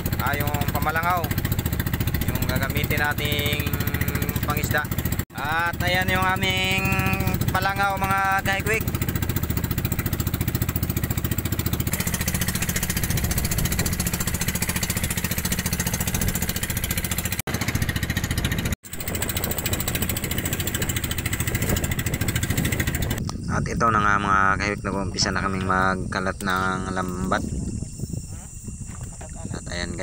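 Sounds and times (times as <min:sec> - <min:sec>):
boat engine chugging: 0:00.0 - 0:30.0.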